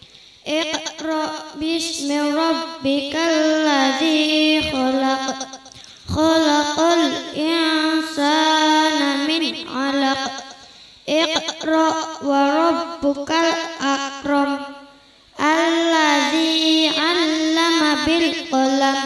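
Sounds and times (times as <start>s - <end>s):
girl reciting melodically over microphone: 0.0s - 19.0s.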